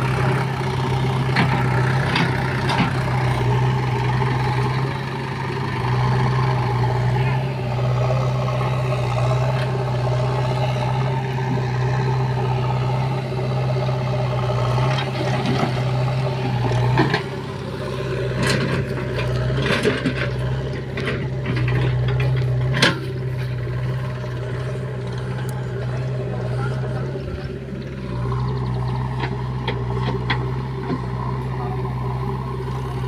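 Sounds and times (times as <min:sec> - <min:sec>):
diesel engines running: 0:00.0 - 0:33.0.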